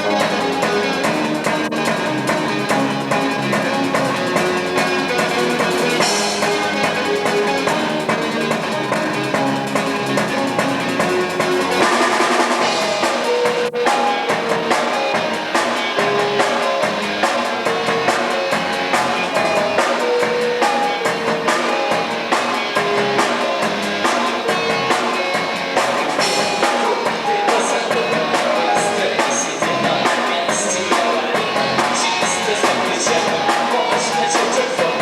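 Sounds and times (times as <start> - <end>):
drum kit beat: 0.0 - 35.0
live band instrumental: 0.0 - 35.0.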